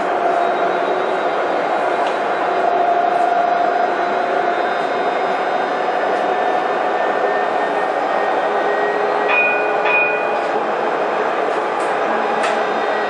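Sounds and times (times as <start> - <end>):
tram wheels and drive running: 0.0 - 13.0.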